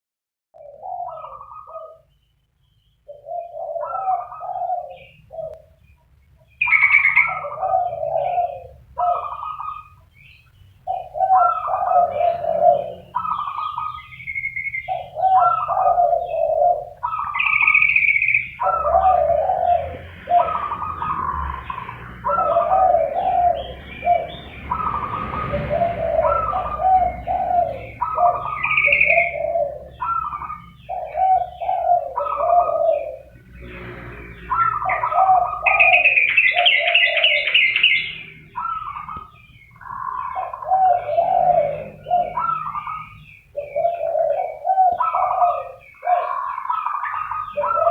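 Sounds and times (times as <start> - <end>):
doves cooing: 0.6 - 2.2, 3.0 - 47.9
bird chirps: 0.6 - 47.9.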